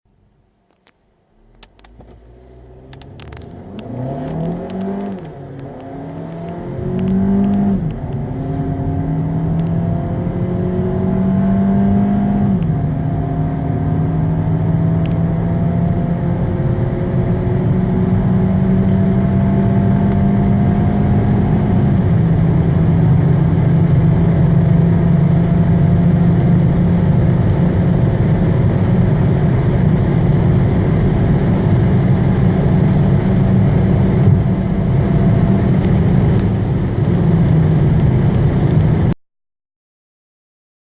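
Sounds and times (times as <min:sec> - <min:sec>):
wind and road noise: 0:00.2 - 0:39.2
car engine accelerating through gears: 0:01.4 - 0:39.1.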